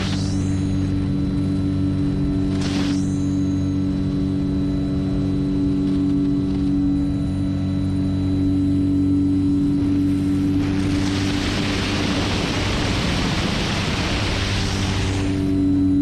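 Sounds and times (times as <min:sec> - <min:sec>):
model plane motor and propeller droning: 0:00.0 - 0:16.0.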